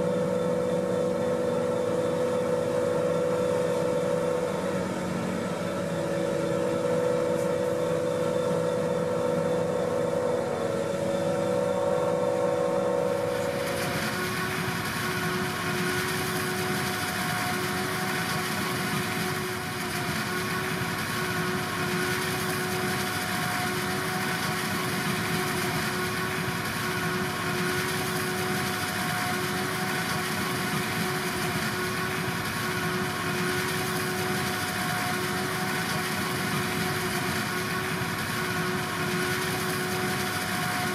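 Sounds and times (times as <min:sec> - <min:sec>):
diesel engines running: 0:00.0 - 0:40.9
machinery whine: 0:00.0 - 0:40.9.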